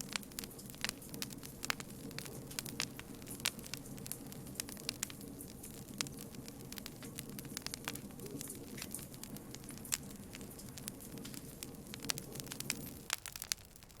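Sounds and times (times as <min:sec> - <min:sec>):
campfire crackling: 0:00.0 - 0:14.0
low rush of fire: 0:00.0 - 0:14.0.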